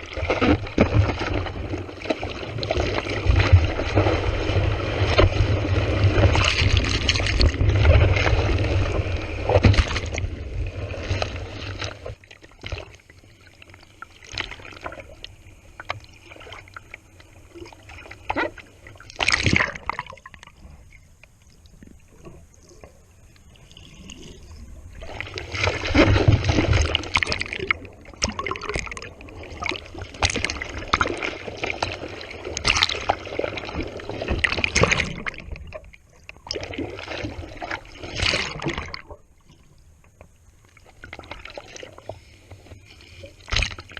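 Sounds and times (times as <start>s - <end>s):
sea water sloshing and splashing: 0.0s - 43.9s.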